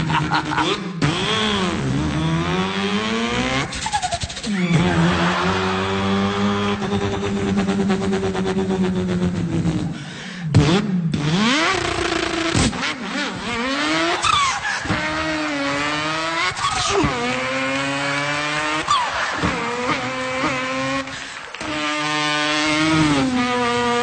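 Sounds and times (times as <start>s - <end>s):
man imitating car engine revving: 0.0s - 24.0s.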